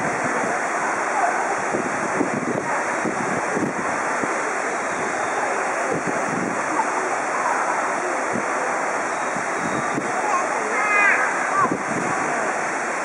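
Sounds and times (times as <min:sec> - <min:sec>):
faint murmur of voices: 0:00.0 - 0:13.0
steady rushing noise: 0:00.0 - 0:13.0.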